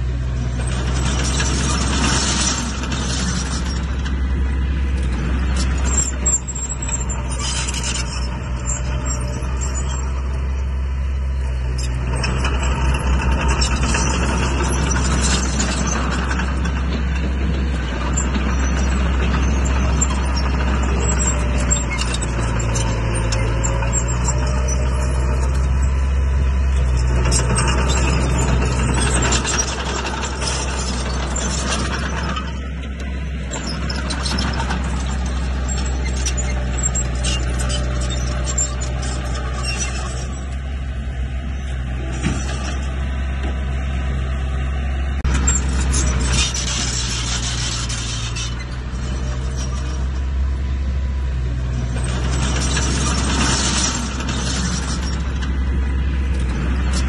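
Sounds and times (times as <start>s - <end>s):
diesel machinery engine drone: 0.0s - 57.0s
machinery clanking: 0.0s - 57.0s.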